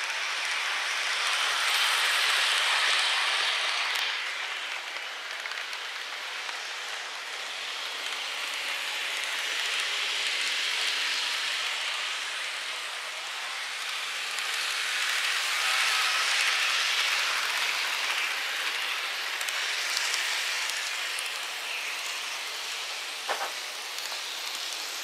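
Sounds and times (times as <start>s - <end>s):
model trains rattling on track: 0.0s - 25.0s.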